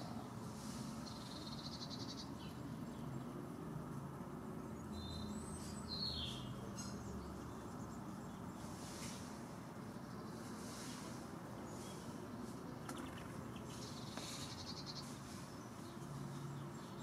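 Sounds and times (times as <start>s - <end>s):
songbirds trilling and chirping: 0.0s - 17.0s.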